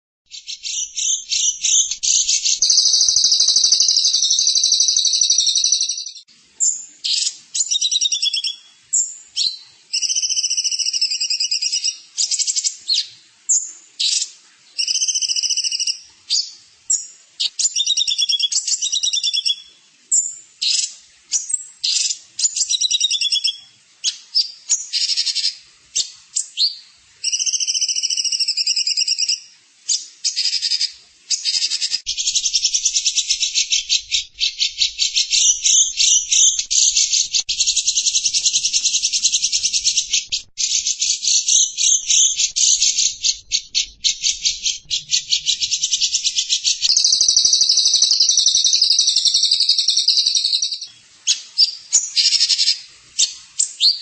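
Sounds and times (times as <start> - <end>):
songbird trilling: 0.3 - 19.7, 21.4 - 23.6, 30.3 - 52.8.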